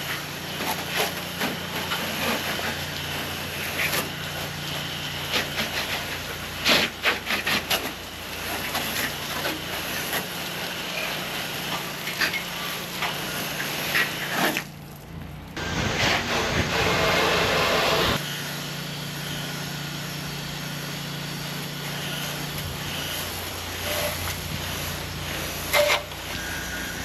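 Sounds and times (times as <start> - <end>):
high-pressure water jet hissing: 0.0 - 15.0, 15.6 - 27.0
pressure washer engine running: 0.0 - 27.0.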